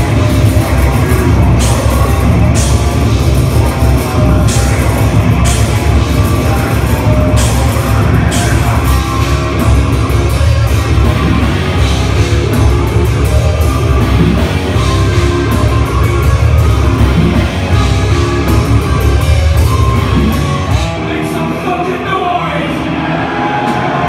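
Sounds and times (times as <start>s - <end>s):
heavy metal band playing: 0.0s - 24.0s.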